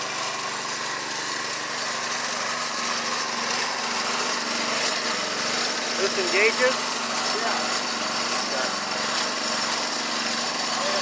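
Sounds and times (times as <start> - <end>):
small gasoline engine idling: 0.0 - 11.0.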